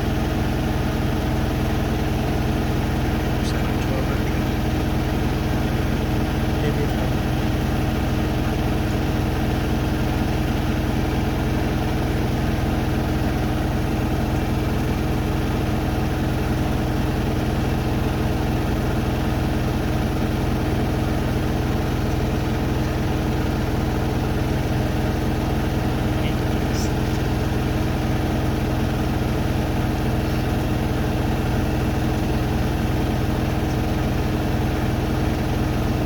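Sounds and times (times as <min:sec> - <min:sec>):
washing machines spinning: 0:00.0 - 0:36.0.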